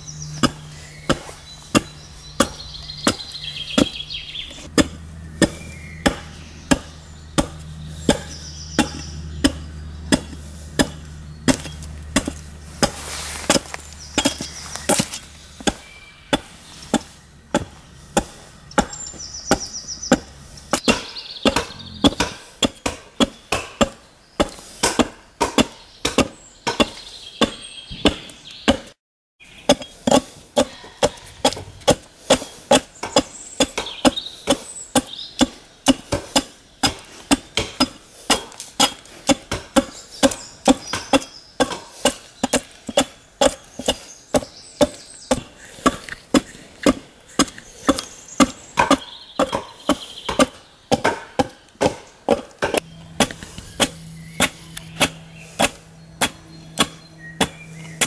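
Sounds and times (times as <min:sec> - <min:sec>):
adze chopping into wood: 0:00.3 - 0:04.0, 0:04.6 - 0:29.0, 0:29.7 - 0:58.0.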